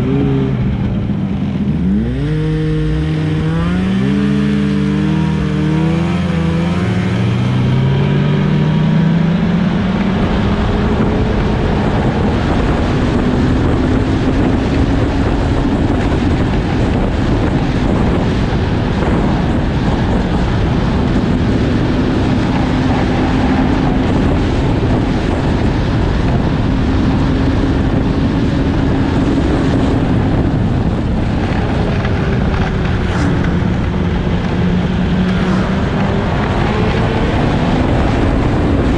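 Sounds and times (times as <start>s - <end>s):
snowmobile engine: 0.0s - 38.9s
wind noise: 0.0s - 38.9s.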